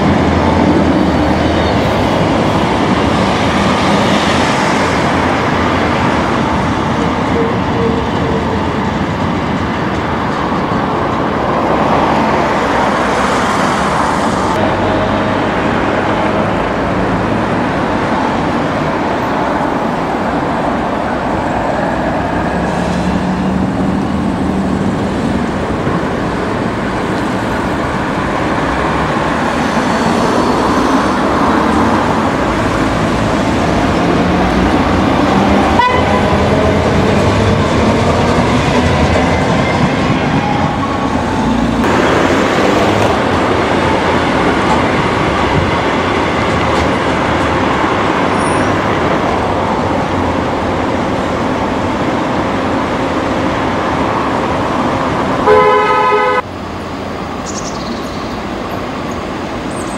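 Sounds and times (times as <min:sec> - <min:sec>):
road traffic: 0:00.0 - 0:59.9
train on elevated railway: 0:00.0 - 0:59.9.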